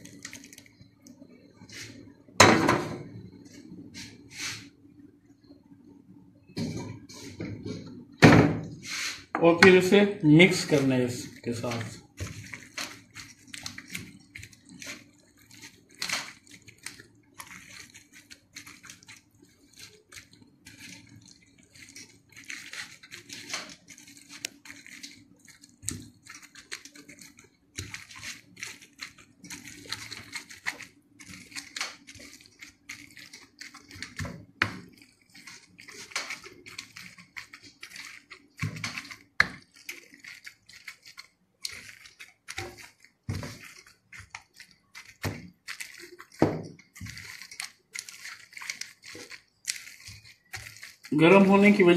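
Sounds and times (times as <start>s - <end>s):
wet stirring and mashing: 0.0s - 51.9s.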